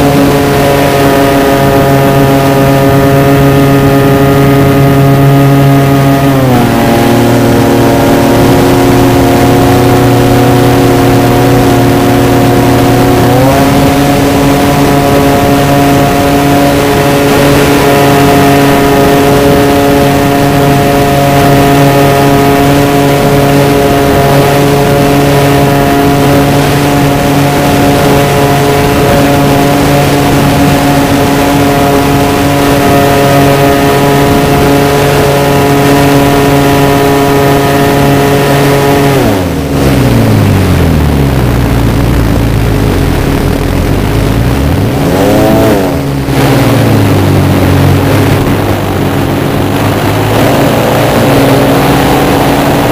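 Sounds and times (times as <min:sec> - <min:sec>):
model plane motor and propeller: 0:00.0 - 0:44.7
rushing air: 0:00.0 - 0:52.9.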